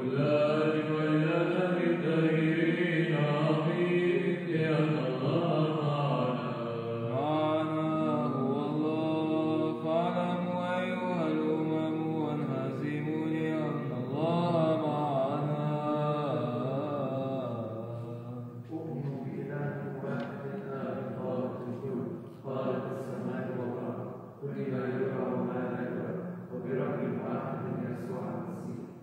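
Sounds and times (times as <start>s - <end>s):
man chanting: 0.0s - 29.0s.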